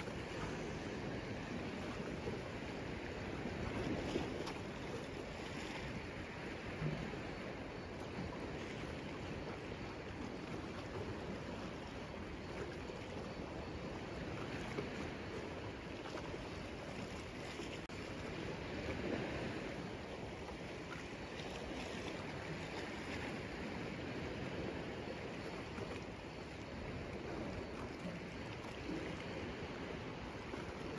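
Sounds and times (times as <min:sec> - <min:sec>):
rush of moving water: 0:00.0 - 0:30.9.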